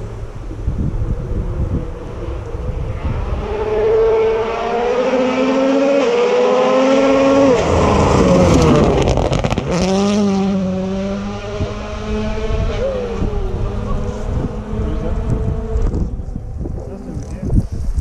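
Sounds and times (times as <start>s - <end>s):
rally car engine at full throttle: 0.0s - 17.8s.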